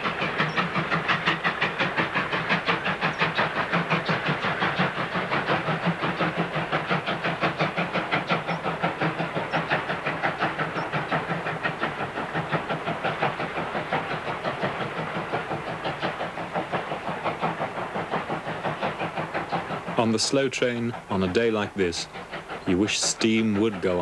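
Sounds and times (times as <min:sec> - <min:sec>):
steam locomotive chuffing: 0:00.0 - 0:24.0.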